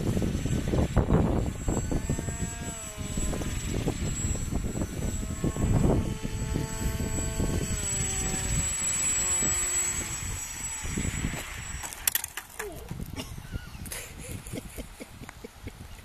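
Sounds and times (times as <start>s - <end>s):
model aircraft motor whine: 0.0s - 15.1s
wind buffeting microphone: 0.0s - 16.0s.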